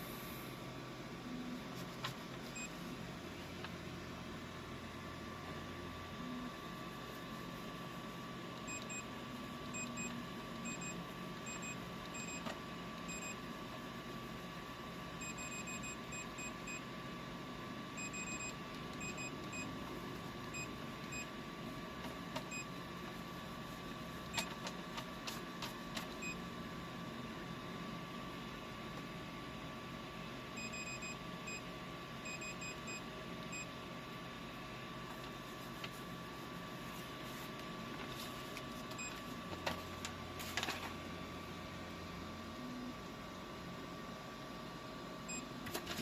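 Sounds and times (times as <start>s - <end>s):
fan hum: 0.0s - 46.0s.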